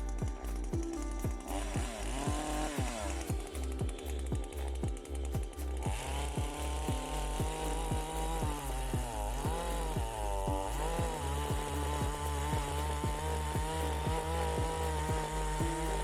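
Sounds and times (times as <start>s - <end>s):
background music with kick drum: 0.0s - 16.0s
chainsaw cutting wood: 0.0s - 16.0s.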